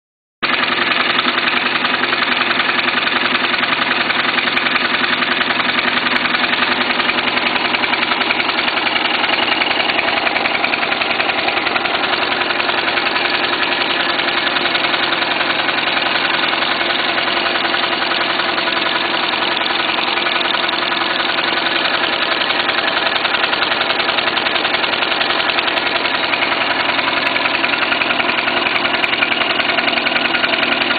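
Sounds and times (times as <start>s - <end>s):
engine running steadily: 0.4s - 30.9s.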